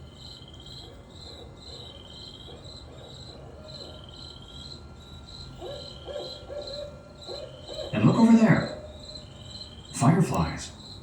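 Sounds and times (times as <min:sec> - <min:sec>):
crickets chirping: 0:00.0 - 0:11.0
insect trill: 0:00.0 - 0:11.0
faint owl hoots: 0:00.8 - 0:10.8.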